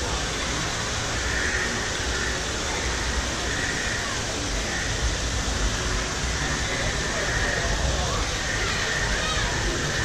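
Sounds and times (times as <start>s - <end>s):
rushing outdoor background noise: 0.0s - 10.0s.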